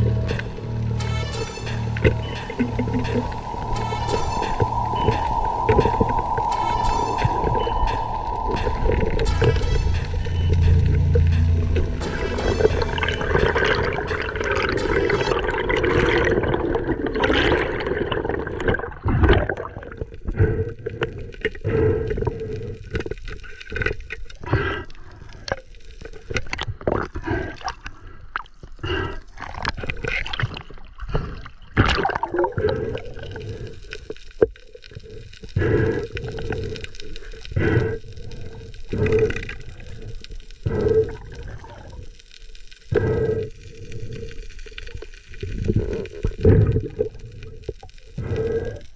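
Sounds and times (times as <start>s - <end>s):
underwater gurgling and sloshing: 0.0s - 48.9s.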